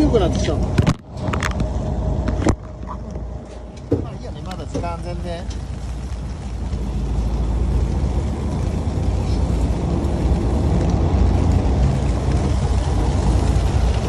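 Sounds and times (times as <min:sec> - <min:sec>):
boat engine running: 0:00.0 - 0:14.0
wind buffeting microphone: 0:00.0 - 0:14.0.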